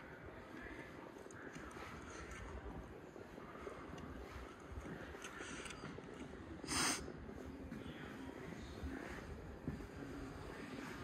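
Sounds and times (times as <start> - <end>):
low rumble and hiss: 0.0 - 11.0.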